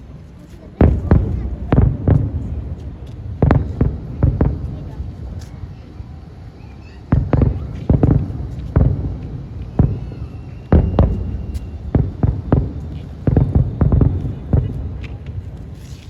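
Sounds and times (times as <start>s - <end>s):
fireworks booming: 0.8s - 15.8s.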